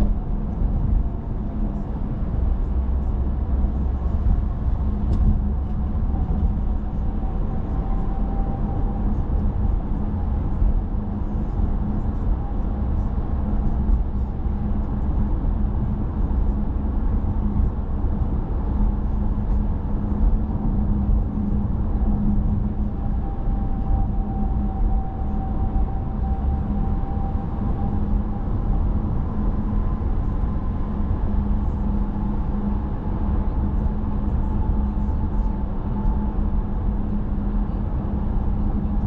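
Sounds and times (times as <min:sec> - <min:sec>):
car tyres and engine rumble: 0:00.0 - 0:39.0
faint constant hum: 0:00.0 - 0:39.0.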